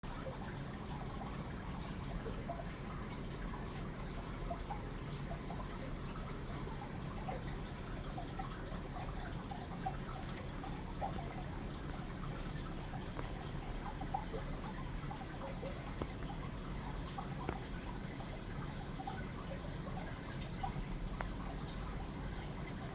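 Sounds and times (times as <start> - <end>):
aquarium water trickling: 0.0 - 22.9
low steady hum: 0.0 - 22.9.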